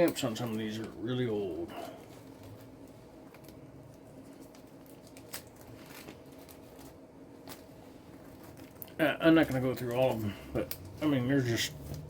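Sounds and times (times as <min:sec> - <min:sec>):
low room hum: 0:00.0 - 0:12.0
paper postcards rustling: 0:00.1 - 0:12.0.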